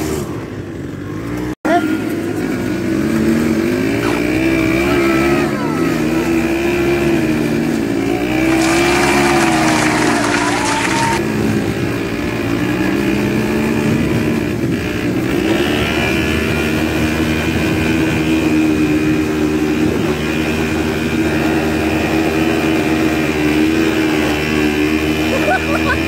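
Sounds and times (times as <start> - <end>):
quad bike engine: 0.0 - 26.0.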